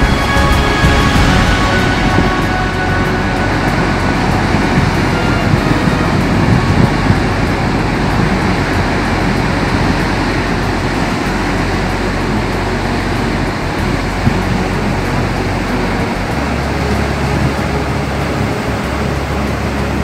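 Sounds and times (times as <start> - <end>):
sea surf: 0.0 - 20.0
wind: 0.0 - 20.0.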